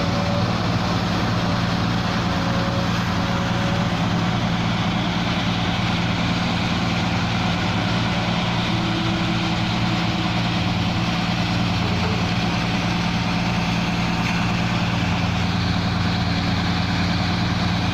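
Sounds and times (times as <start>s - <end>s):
truck diesel engine running: 0.0s - 17.9s.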